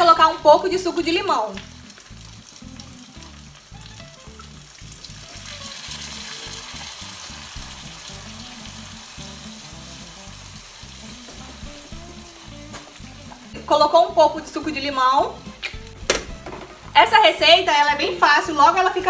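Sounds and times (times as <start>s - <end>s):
meat sizzling in a pan: 0.0s - 14.4s, 15.0s - 19.0s
quiet background music: 0.0s - 19.0s.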